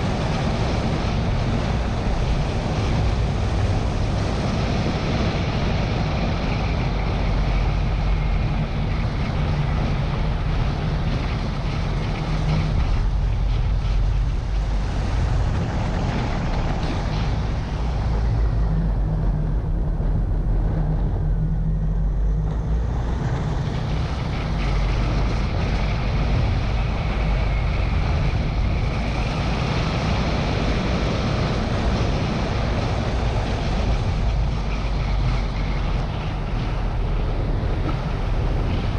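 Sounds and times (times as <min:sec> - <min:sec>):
car engine and tyre noise: 0:00.0 - 0:38.9
wind buffeting microphone: 0:00.0 - 0:38.9.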